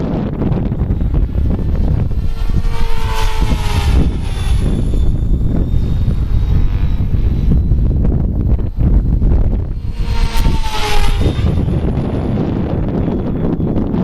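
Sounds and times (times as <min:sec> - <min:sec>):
rc helicopter rotor whine: 0:00.0 - 0:14.0
wind noise on microphone: 0:00.0 - 0:14.0.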